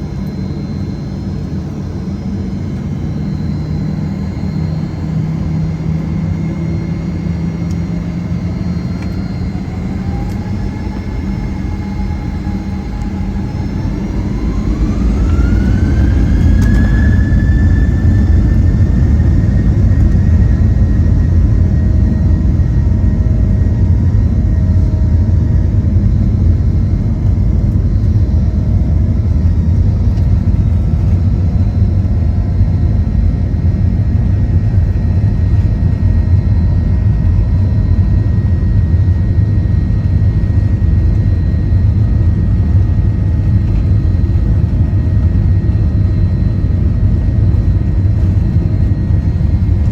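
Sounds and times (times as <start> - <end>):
jet engines spooling up and roaring: 0.0 - 49.9.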